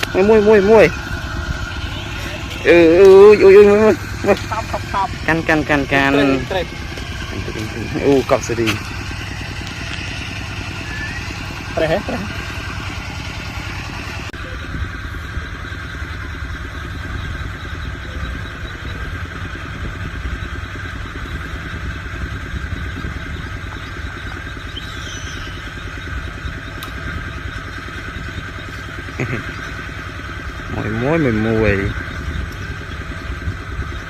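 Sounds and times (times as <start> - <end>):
small engine rumbling: 0.0 - 34.0.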